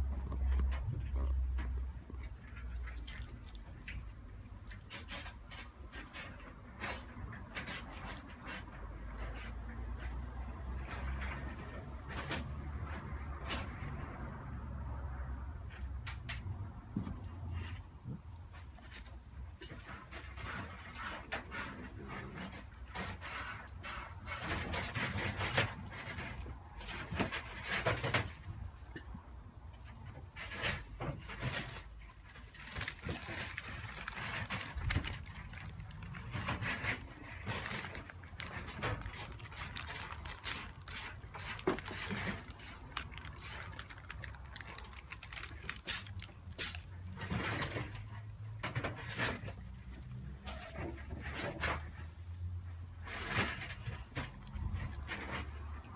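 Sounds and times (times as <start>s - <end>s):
cats crunching dry kibble: 0.0s - 14.4s, 15.6s - 55.9s.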